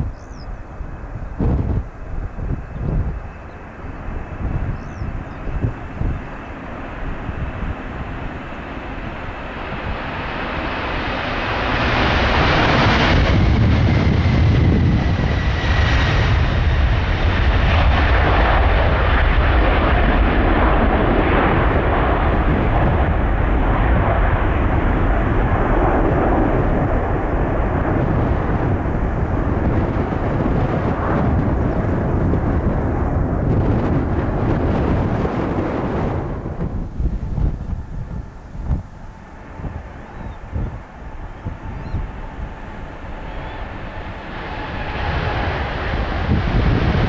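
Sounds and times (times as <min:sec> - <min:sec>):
jet airliner taking off: 0:00.0 - 0:47.0.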